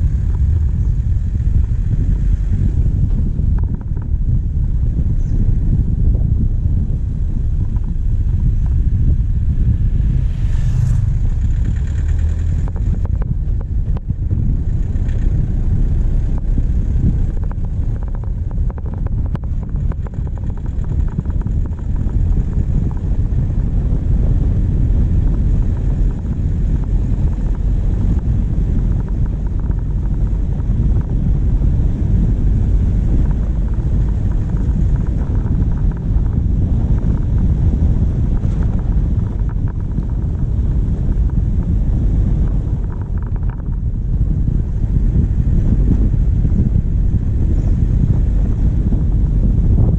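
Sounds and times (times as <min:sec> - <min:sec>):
diesel engine rumble: 0:00.0 - 0:49.9
wind buffeting microphone: 0:00.0 - 0:49.9.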